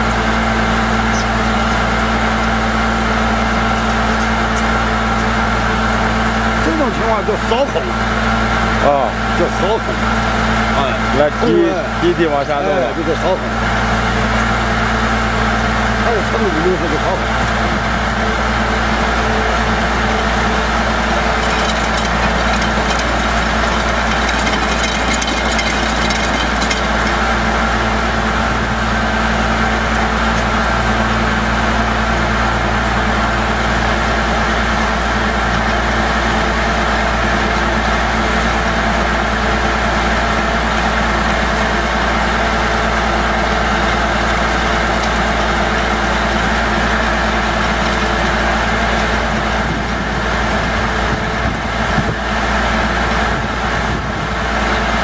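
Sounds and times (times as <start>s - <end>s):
drilling rig engine hum: 0.0s - 55.0s.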